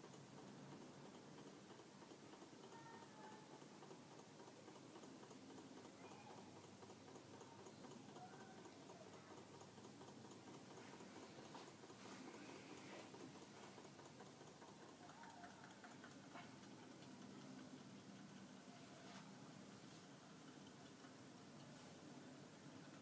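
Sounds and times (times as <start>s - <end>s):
small engine ticking: 0.0s - 21.8s
low hiss: 0.0s - 23.0s.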